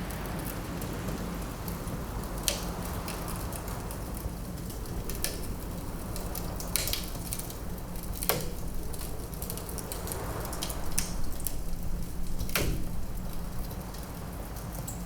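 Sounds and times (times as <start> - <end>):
low wind rumble: 0.0 - 15.0
wood fire crackling: 0.1 - 15.0
fire popping: 1.6 - 15.0.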